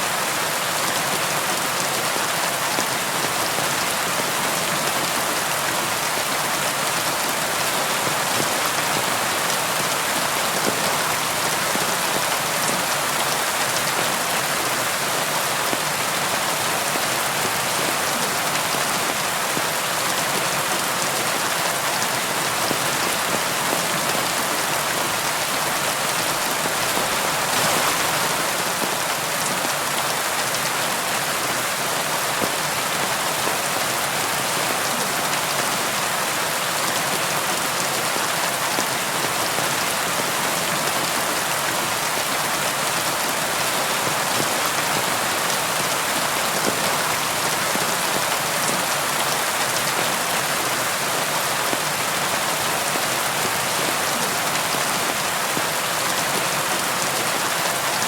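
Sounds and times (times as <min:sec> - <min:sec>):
rain pattering: 0:00.1 - 0:58.0.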